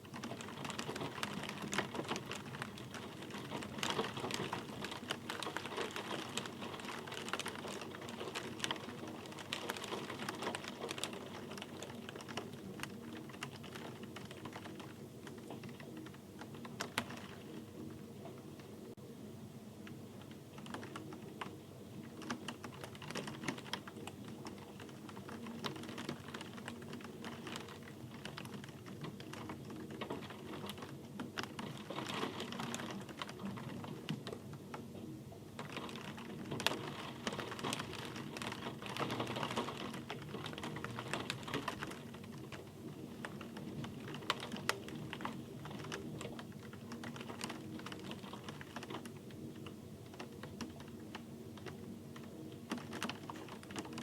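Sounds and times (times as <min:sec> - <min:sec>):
rain drops pattering: 0:00.0 - 0:54.0.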